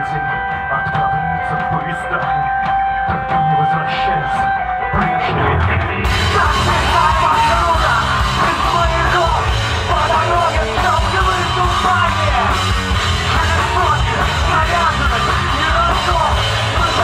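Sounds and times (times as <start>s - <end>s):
drums: 0.0s - 17.0s
electric guitar: 0.0s - 17.0s
singer shouting and singing: 0.0s - 17.0s.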